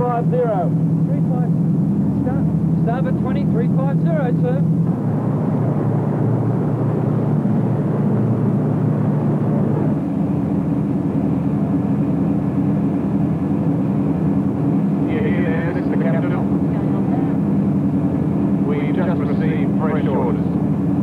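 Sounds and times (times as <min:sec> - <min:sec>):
boat diesel engines droning: 0:00.0 - 0:21.0.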